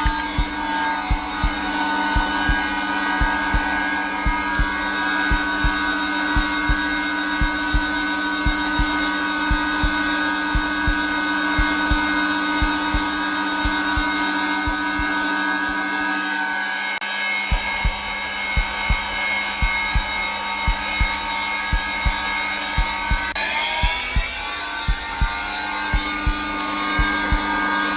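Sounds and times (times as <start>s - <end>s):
heartbeat thumps: 0.0s - 15.8s, 17.5s - 27.9s
vacuum cleaner motor whine: 0.0s - 27.9s.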